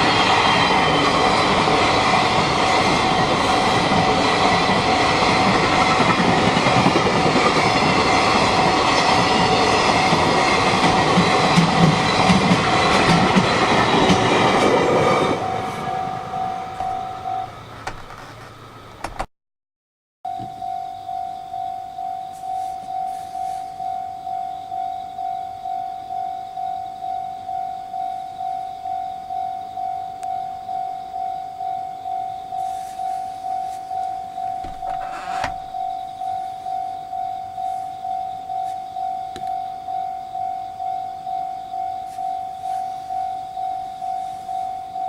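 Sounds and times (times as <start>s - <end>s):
level crossing warning bell: 0.0s - 19.0s, 20.3s - 45.0s.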